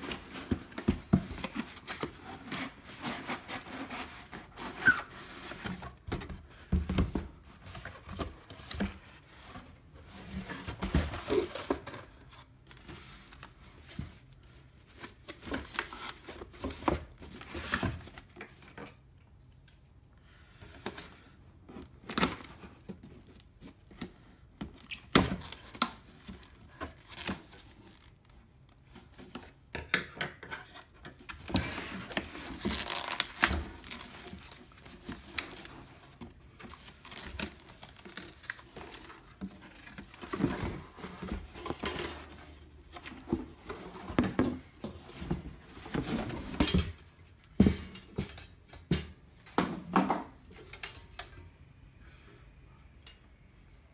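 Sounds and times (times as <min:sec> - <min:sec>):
cardboard and foam rustling: 0:00.0 - 0:20.0, 0:20.8 - 0:29.6, 0:30.9 - 0:48.5.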